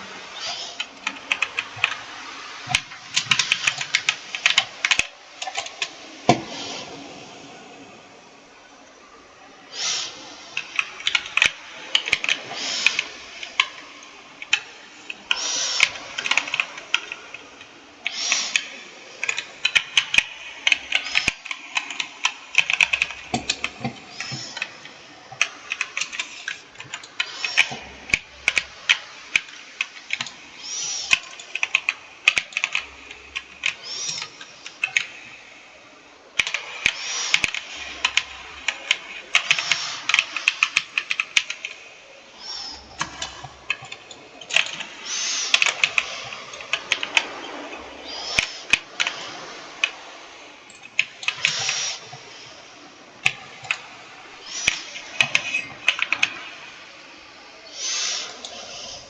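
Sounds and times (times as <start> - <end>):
keyboard typing: 0.0 - 7.6, 9.8 - 52.6, 53.2 - 57.0.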